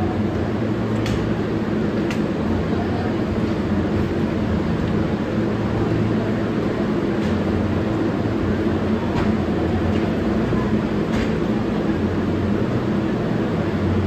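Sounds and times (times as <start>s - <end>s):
subway train rumble and hum: 0.0s - 14.0s.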